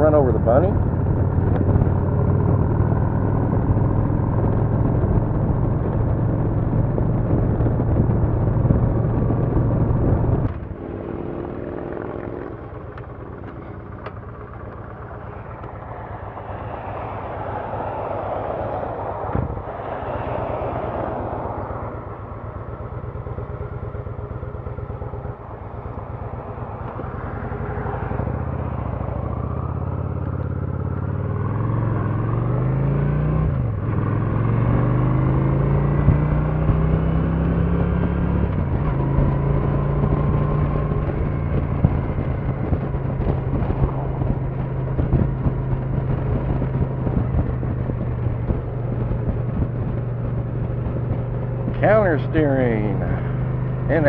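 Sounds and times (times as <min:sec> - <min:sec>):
motorcycle engine running: 0:00.0 - 0:17.9, 0:21.4 - 0:54.0.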